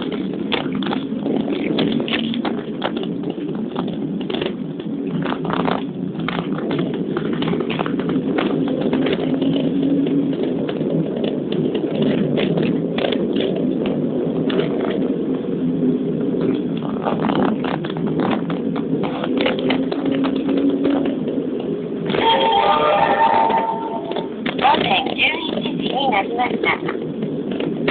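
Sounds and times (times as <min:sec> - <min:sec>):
engine and tyre rumble: 0:00.0 - 0:27.9.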